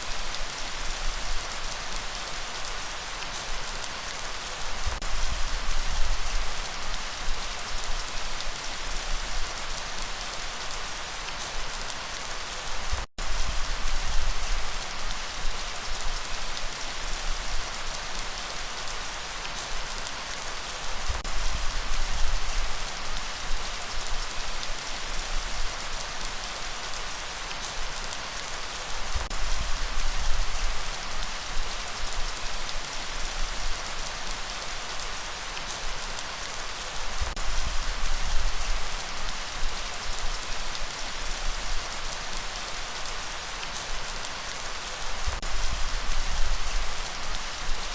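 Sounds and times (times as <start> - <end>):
rain pattering on surfaces: 0.0 - 47.9.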